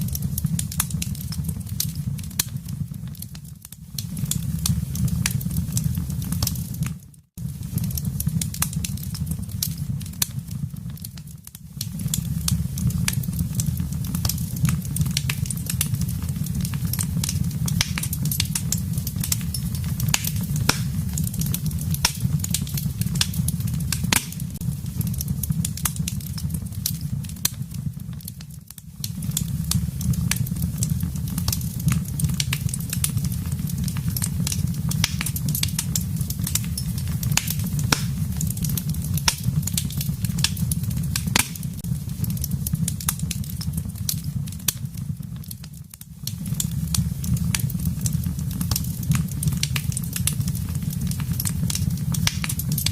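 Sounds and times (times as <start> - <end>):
fire crackling and popping: 0.0 - 52.9
low rumble of flames: 0.0 - 52.9.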